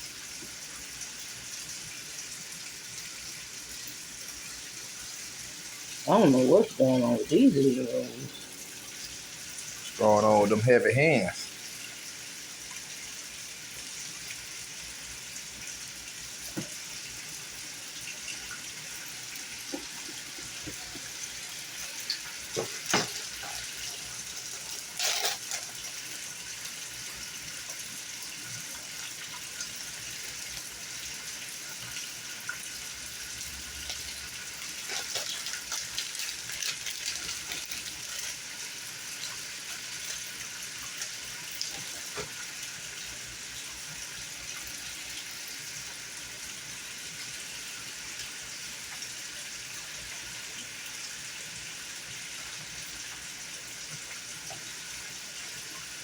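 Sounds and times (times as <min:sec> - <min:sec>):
food sizzling in hot oil: 0:00.0 - 0:10.0, 0:11.4 - 0:56.0.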